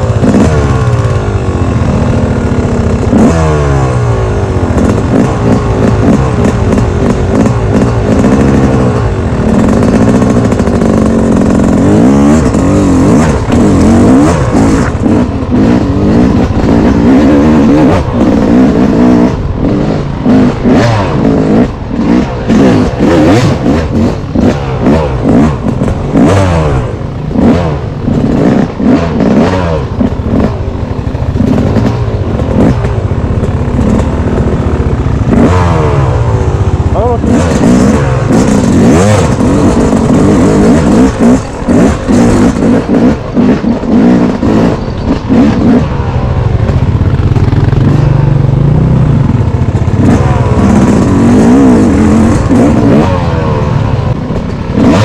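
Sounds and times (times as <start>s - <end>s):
clatter over rough ground: 0.0s - 55.0s
off-road engine revving: 0.0s - 55.0s.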